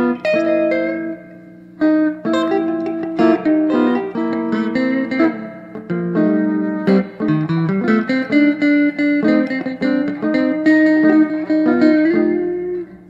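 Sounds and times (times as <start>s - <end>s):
electric guitars playing: 0.0s - 13.0s.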